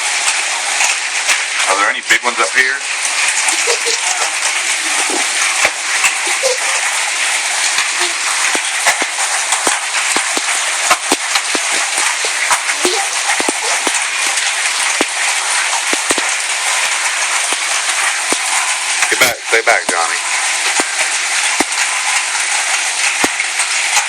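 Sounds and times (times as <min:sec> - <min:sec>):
rain and hail hissing: 0:00.0 - 0:24.0
hailstones knocking: 0:00.2 - 0:24.0.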